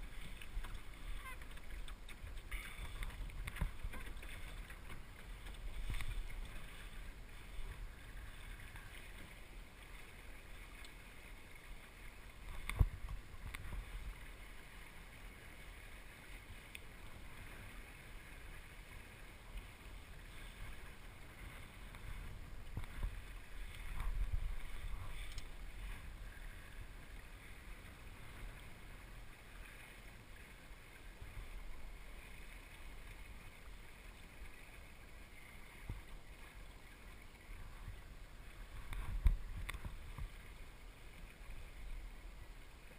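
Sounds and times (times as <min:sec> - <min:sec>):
water washing along hull: 0:00.0 - 0:42.9.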